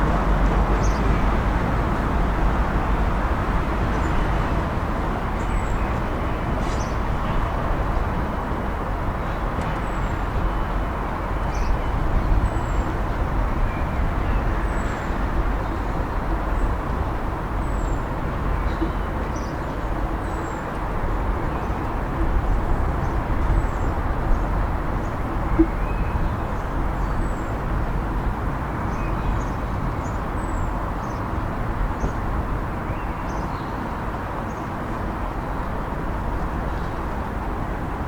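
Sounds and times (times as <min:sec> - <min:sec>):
low rumble of vehicle noise: 0:00.0 - 0:38.0.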